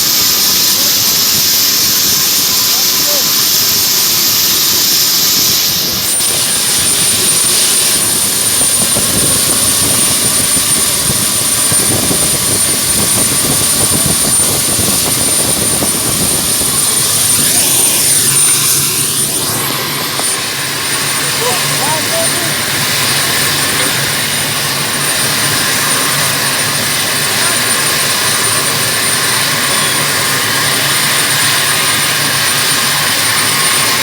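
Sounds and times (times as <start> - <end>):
high jet whine: 0.0 - 34.0
jet engine roar: 0.0 - 34.0.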